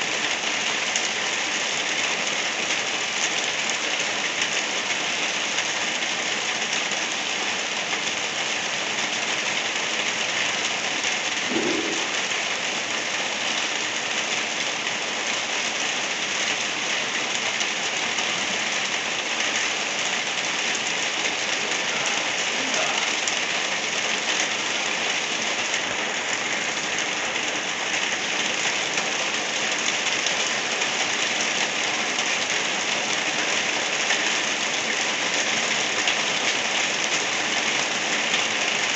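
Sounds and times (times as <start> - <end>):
light rain falling: 0.0 - 38.9.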